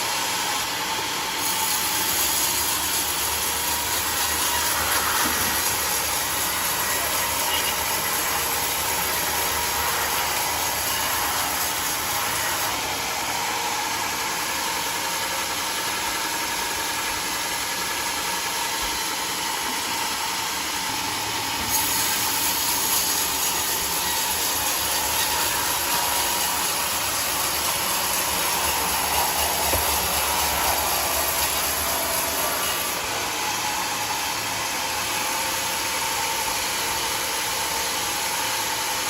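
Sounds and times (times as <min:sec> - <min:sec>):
band saw cutting log: 0:00.0 - 0:39.0.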